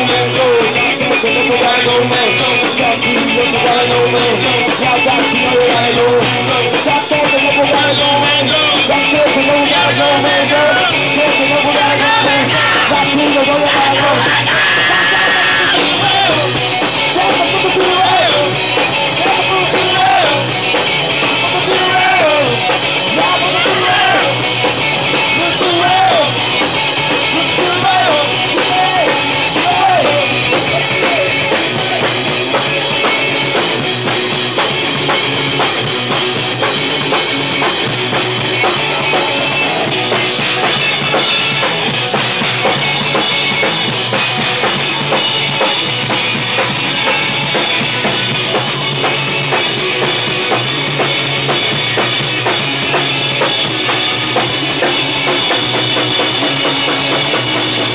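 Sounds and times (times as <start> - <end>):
punk rock music: 0.0 - 57.9.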